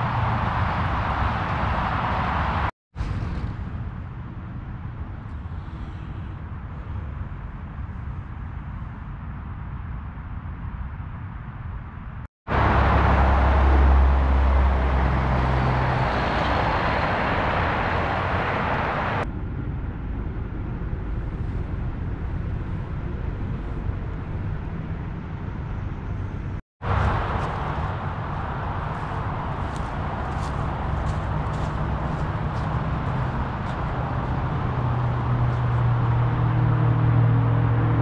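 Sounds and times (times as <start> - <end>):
highway traffic hiss and rumble: 0.0 - 38.0.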